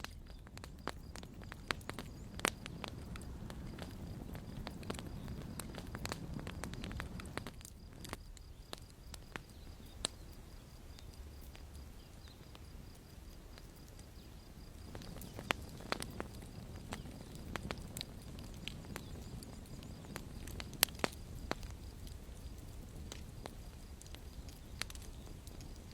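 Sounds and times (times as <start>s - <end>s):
campfire crackling: 0.0s - 25.9s
low rumble of flames: 0.0s - 25.9s.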